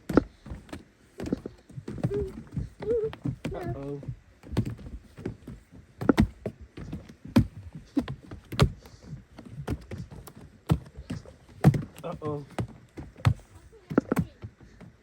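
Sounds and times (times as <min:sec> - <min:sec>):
irregular knocks and thumps: 0:00.0 - 0:15.0.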